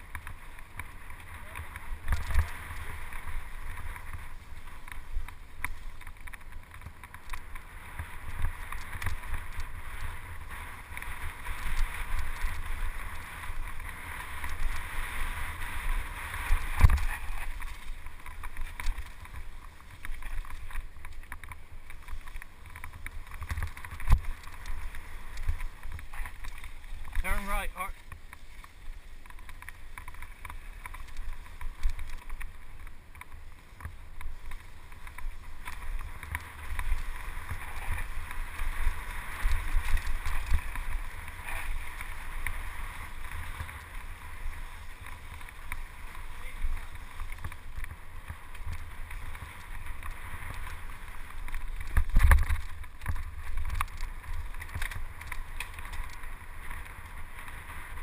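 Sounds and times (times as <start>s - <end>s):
bike tyres hissing and rattling: 0.0s - 58.0s.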